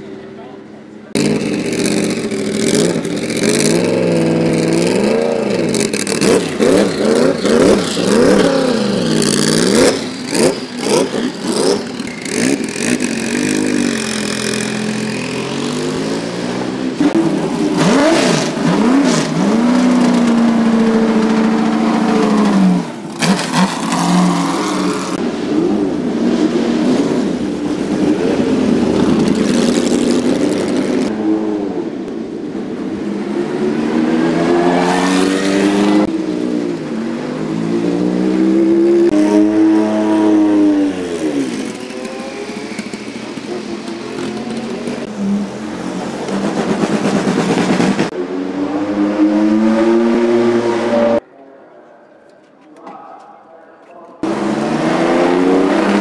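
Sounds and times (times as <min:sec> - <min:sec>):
race cars pulling away: 0:00.0 - 0:51.2, 0:54.2 - 0:56.0
race car engines idling and blipping: 0:00.0 - 0:56.0.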